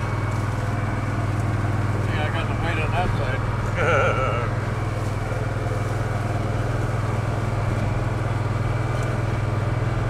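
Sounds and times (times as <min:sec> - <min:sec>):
vehicle engine drone from cab: 0:00.0 - 0:10.0.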